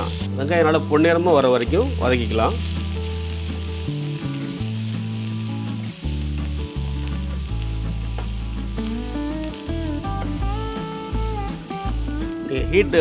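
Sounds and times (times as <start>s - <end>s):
background music with low notes: 0.0s - 13.0s
onions sizzling in oil: 0.0s - 13.0s.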